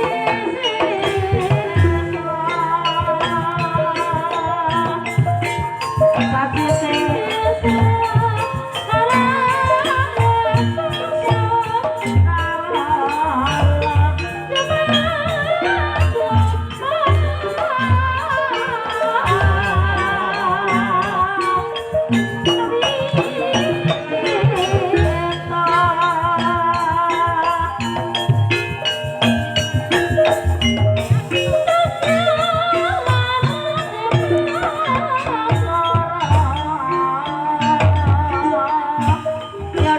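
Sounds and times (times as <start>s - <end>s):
drum beats: 0.0s - 39.9s
metallophone notes: 0.0s - 39.9s
wavering gamelan melody: 0.0s - 39.9s.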